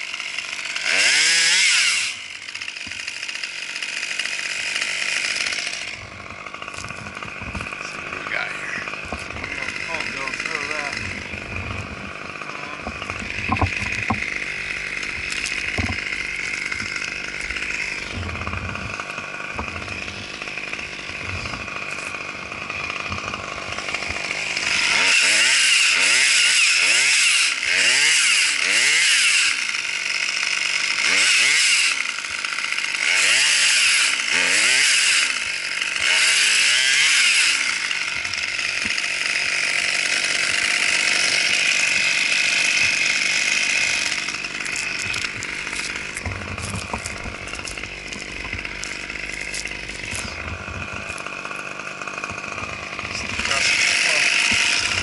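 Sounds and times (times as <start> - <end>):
chainsaw running and revving: 0.0 - 55.0.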